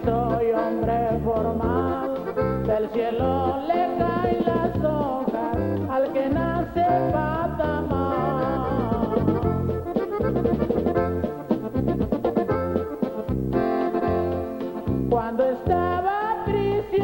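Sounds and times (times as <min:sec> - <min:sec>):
accordion band music: 0:00.0 - 0:17.0.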